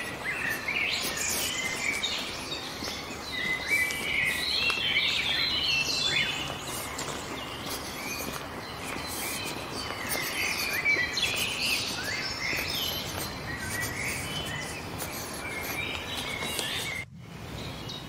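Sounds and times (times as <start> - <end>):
songbirds chirping: 0.0 - 18.0
woodland background hiss: 0.0 - 18.0.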